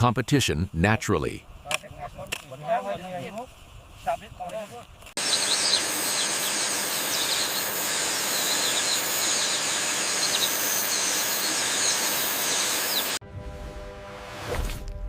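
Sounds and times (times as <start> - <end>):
steady hiss: 0.0 - 13.2.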